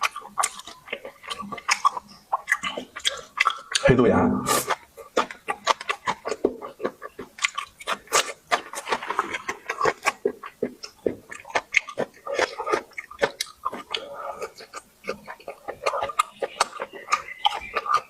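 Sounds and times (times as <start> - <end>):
wet chewing mouth clicks: 0.0 - 18.0.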